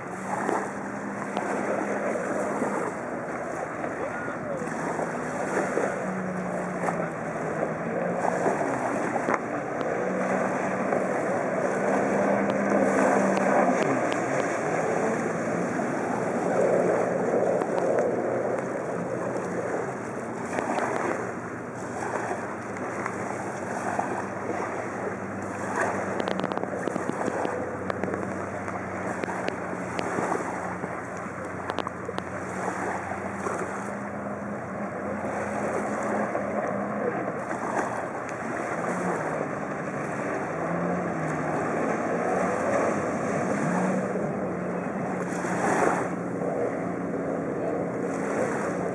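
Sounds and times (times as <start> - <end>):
jet ski engine droning: 0.0 - 48.9.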